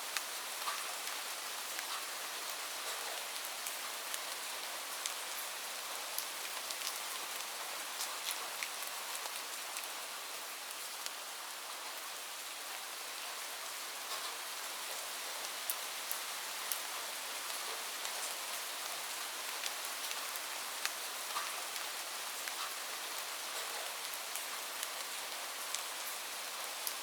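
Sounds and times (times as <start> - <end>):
light rain hissing: 0.0 - 27.0
raindrops ticking on surface: 0.1 - 11.3, 14.0 - 27.0.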